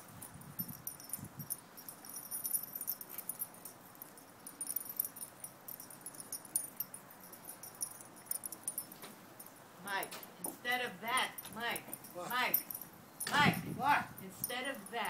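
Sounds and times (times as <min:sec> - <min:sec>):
dog collar tags jingling: 0:00.0 - 0:15.0.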